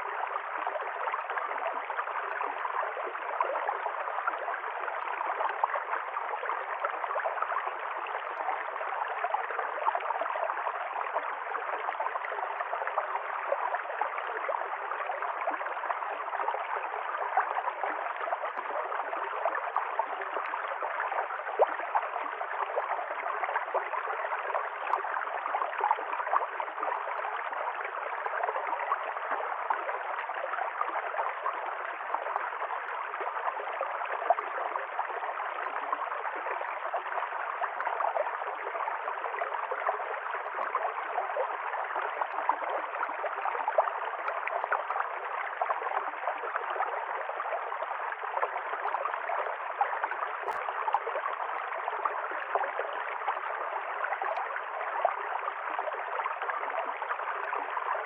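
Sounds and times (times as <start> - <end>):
stream gurgling over stones: 0.0 - 58.0.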